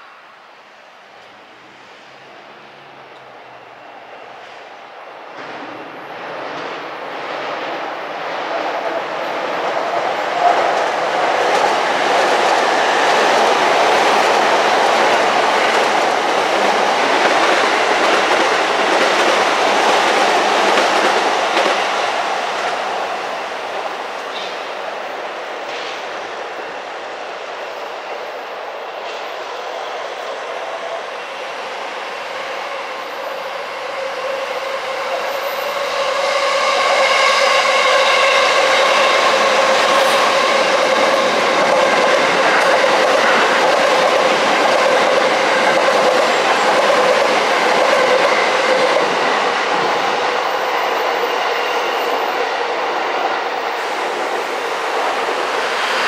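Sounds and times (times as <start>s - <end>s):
electric train passing: 0.0s - 56.0s.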